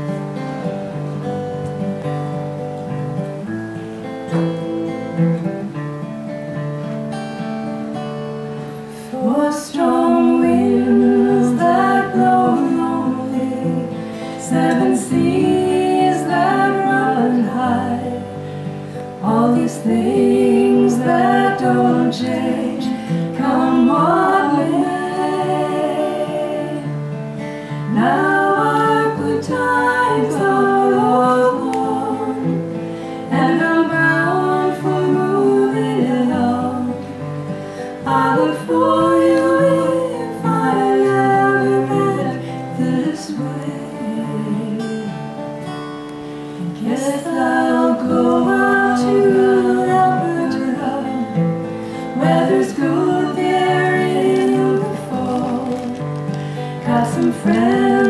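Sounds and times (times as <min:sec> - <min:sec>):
strummed acoustic guitars: 0:00.0 - 0:58.0
two women singing: 0:08.7 - 0:58.0.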